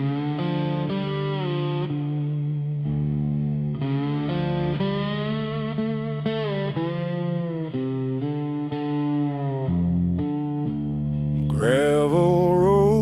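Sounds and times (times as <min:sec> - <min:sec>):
distorted lead guitar melody: 0:00.0 - 0:13.0.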